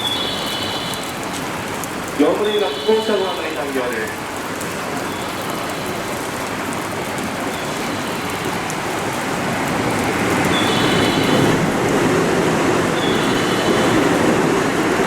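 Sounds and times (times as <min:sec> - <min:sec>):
train approaching: 0:00.0 - 0:15.0.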